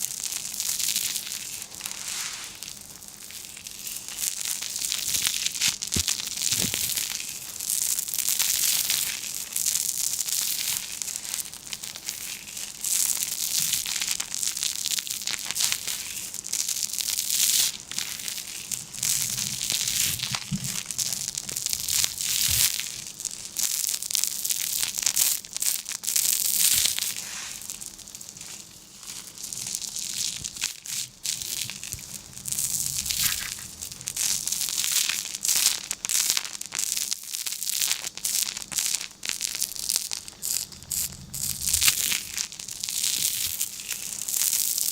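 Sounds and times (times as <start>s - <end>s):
crinkling crackly material: 0.0s - 44.9s.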